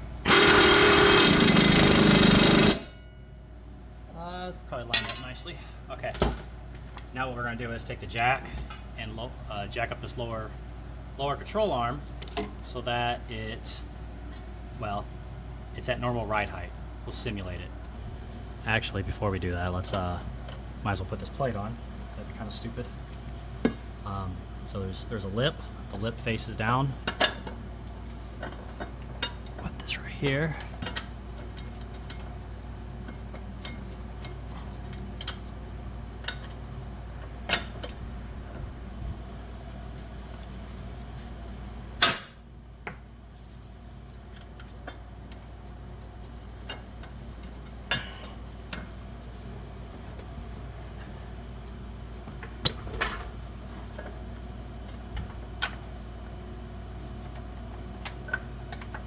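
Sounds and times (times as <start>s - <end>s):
shop fan humming: 0.0s - 59.0s.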